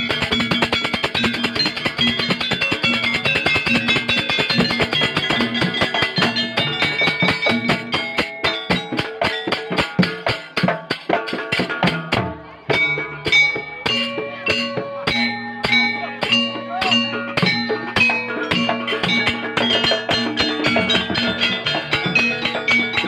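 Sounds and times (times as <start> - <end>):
fast drum pattern: 0.0 - 23.0.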